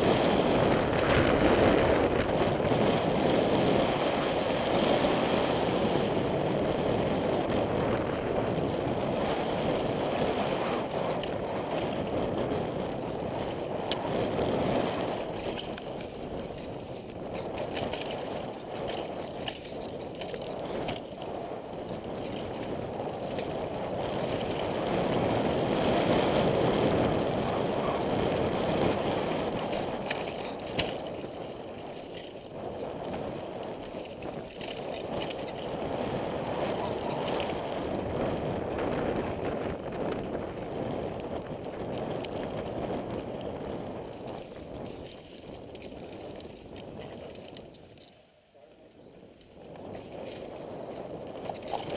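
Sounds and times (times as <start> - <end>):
bike clicks and rattles: 0.0 - 48.3, 49.3 - 51.9
bike tyre noise: 0.0 - 51.9
wind rushing on microphone: 0.0 - 51.9.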